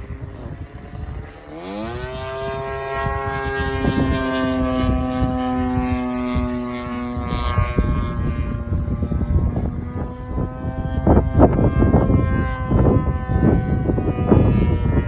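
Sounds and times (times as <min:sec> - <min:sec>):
model airplane motor: 0:00.0 - 0:15.0
wind buffeting microphone: 0:00.0 - 0:15.0.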